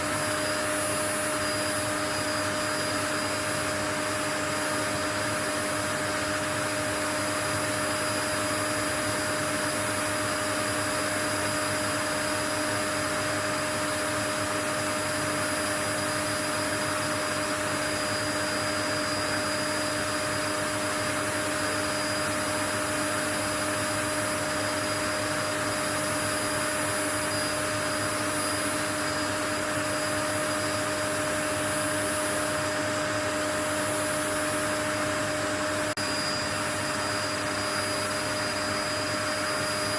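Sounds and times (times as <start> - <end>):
appliance motor blowing air: 0.0 - 39.9.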